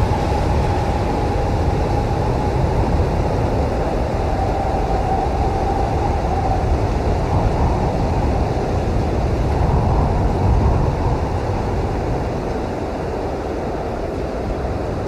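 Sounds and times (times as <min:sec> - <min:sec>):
blizzard wind blowing hard: 0:00.0 - 0:15.0.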